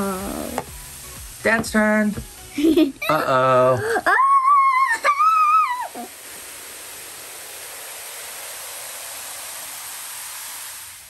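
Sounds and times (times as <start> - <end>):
vinegar and baking soda fizzing: 0.0 - 11.0.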